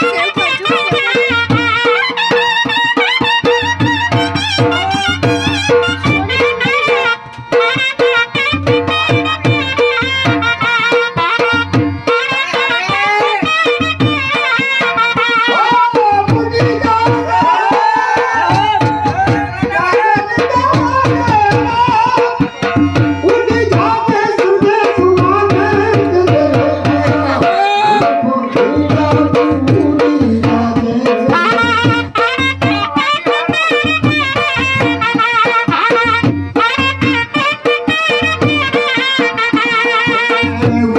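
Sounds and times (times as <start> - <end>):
fast drum beat: 0.0 - 40.9.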